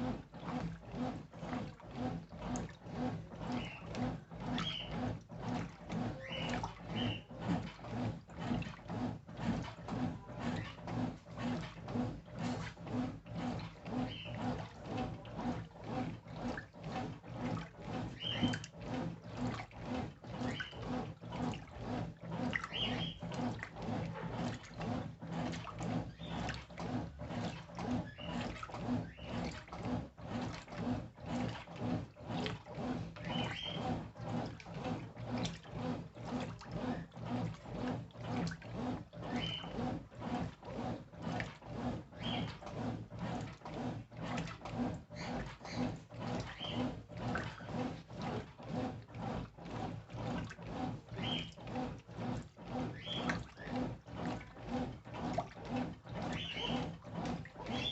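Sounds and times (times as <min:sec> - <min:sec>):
washing machine motor humming: 0:00.0 - 0:57.9
water sloshing: 0:00.0 - 0:57.9.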